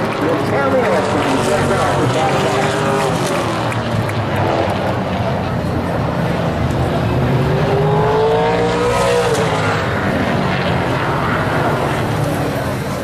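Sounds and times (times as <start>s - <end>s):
race car engine speeding past: 0.0s - 13.0s
rumble of other race cars: 0.0s - 13.0s.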